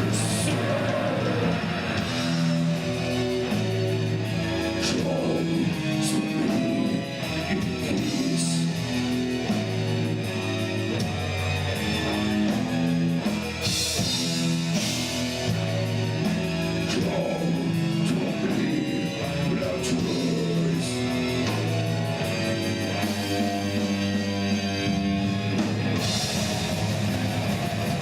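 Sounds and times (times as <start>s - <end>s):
bass guitar: 0.0s - 28.0s
rock guitar chords: 0.0s - 28.0s
steady drum beat: 0.0s - 28.0s.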